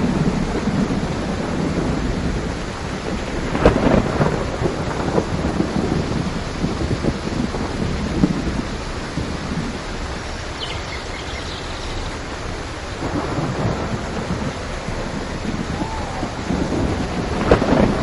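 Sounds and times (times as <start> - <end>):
heavy rain: 0.0 - 18.0
thunder rumbling and cracking: 0.0 - 18.0.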